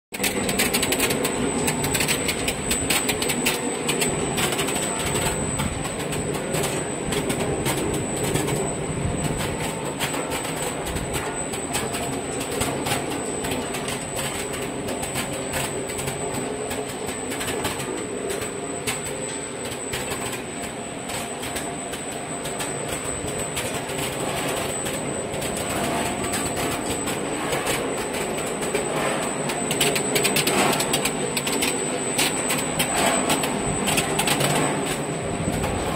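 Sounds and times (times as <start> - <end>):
sorting machine clattering: 0.2 - 35.9.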